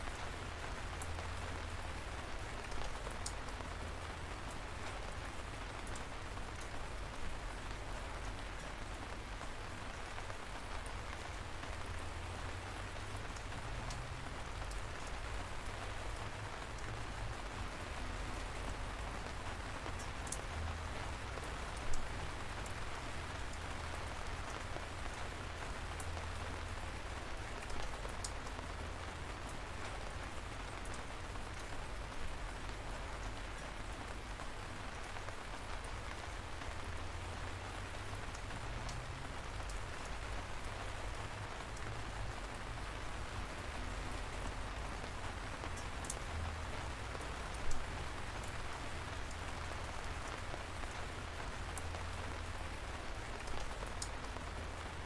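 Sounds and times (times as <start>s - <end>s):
light rain pattering: 0.0s - 55.0s
louder raindrops striking close: 0.0s - 55.0s.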